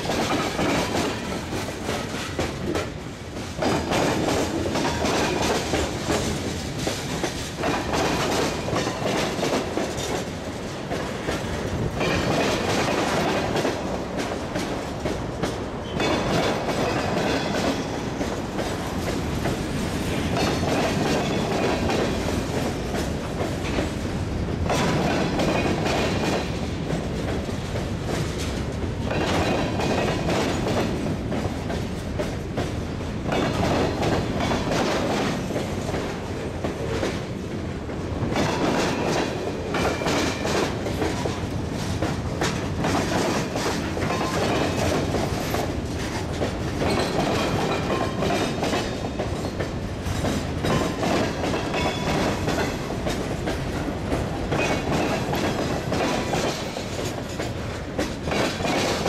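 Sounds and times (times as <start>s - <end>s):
train wheels on rails: 0.0s - 59.0s
wheels clacking over rail joints: 0.0s - 59.0s.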